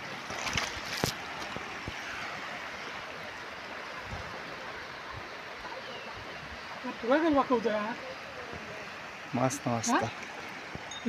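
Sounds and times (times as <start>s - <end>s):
sea surf on rocky shore: 0.0s - 11.0s.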